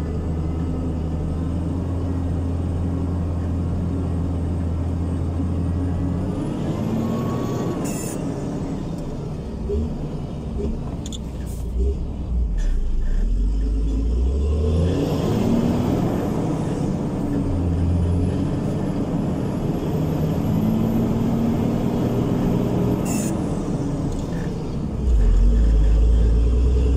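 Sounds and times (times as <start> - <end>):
diesel engine drone: 0.0 - 26.9.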